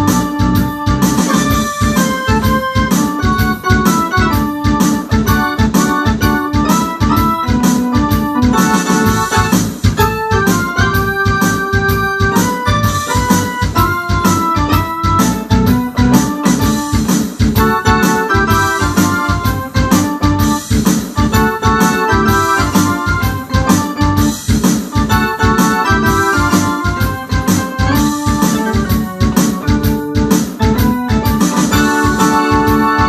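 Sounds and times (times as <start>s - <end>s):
synthesizer playing rock keyboard: 0.0s - 33.0s.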